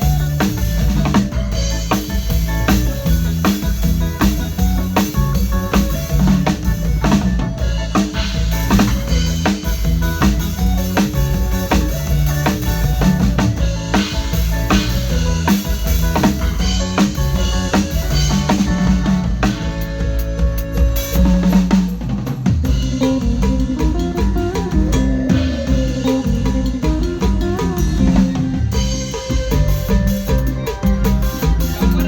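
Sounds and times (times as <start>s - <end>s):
drum kit beat: 0.0s - 32.0s
live band playing: 0.0s - 32.0s.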